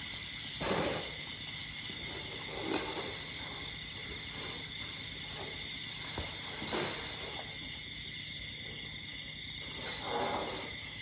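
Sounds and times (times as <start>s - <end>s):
night insects chirring: 0.0s - 11.0s.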